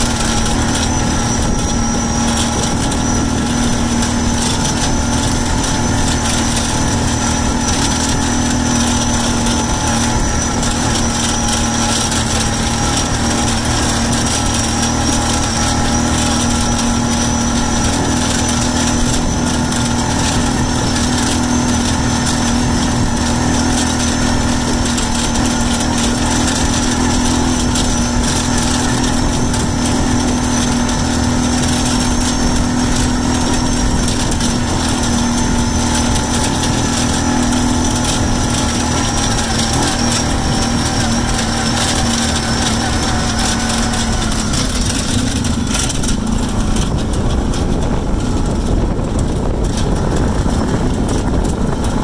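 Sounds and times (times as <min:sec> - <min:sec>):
small vehicle engine humming: 0:00.0 - 0:52.0.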